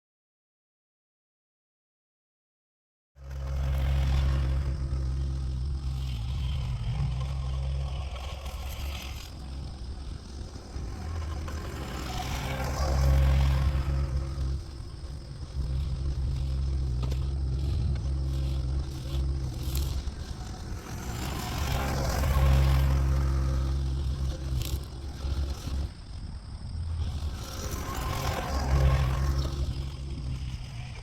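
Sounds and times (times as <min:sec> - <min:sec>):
diesel engine under load: 0:03.2 - 0:31.0
mower cutting brush: 0:03.2 - 0:31.0.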